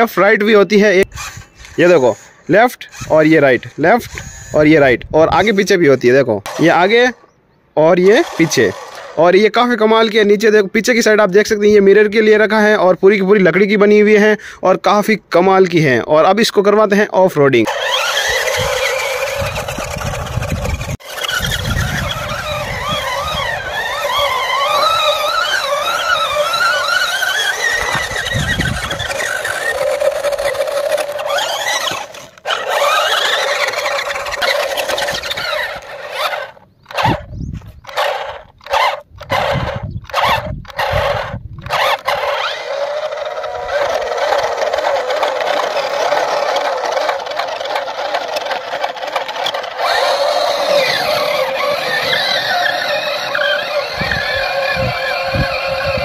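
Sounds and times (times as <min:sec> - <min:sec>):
electric motors whining: 0:00.0 - 0:05.7, 0:08.0 - 0:09.2, 0:17.6 - 0:56.0.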